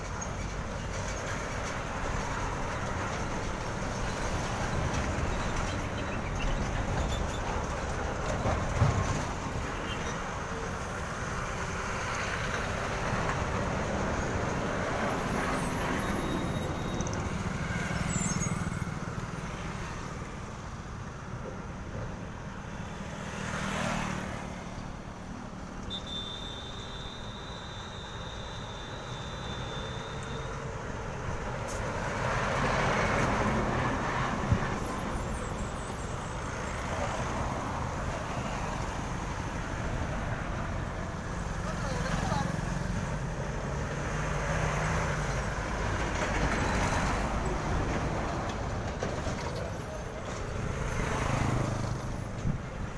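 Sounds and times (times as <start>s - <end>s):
trucks passing: 0.0s - 52.9s.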